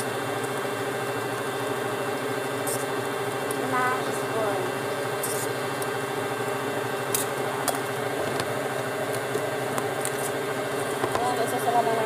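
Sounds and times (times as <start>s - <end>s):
electric mixer motor running: 0.0s - 12.0s.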